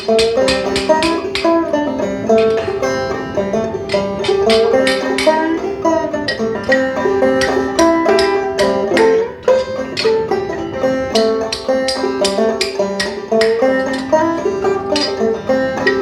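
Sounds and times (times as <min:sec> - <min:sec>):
plucked banjo tune: 0:00.0 - 0:16.0.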